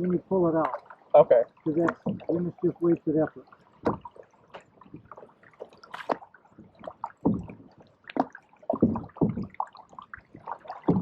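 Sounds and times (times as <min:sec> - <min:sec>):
canoe paddles splashing water: 0:00.0 - 0:11.0.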